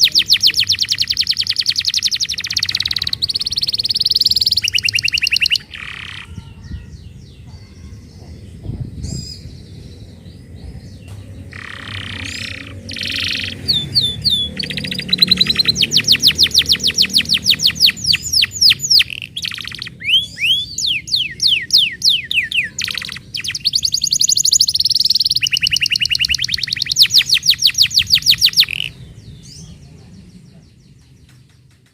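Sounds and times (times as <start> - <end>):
canary singing trills: 0.0 - 31.6.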